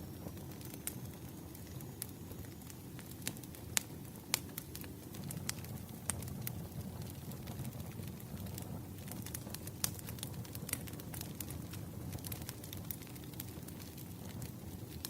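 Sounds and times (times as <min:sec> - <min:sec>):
firewood crackling: 0:00.0 - 0:15.0
low rumble of flame: 0:00.0 - 0:15.0.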